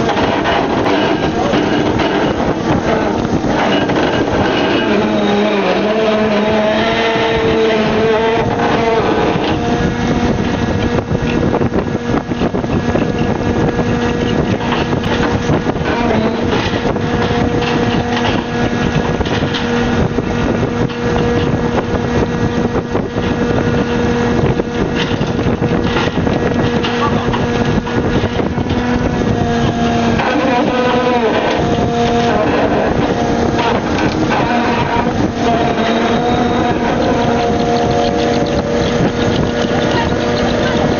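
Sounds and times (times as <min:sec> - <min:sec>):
boat machinery droning: 0:00.0 - 0:40.9
rough noisy background: 0:00.0 - 0:40.9.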